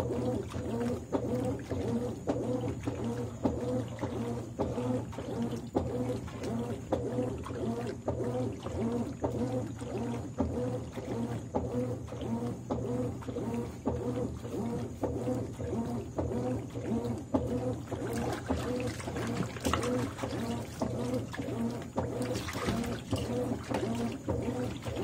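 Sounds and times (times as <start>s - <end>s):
washing machine agitating: 0.0s - 25.0s
water splashing: 0.0s - 25.0s.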